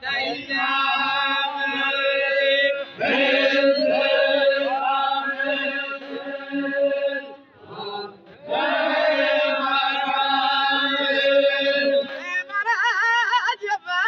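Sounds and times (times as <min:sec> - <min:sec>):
men chanting held notes: 0:00.0 - 0:12.5.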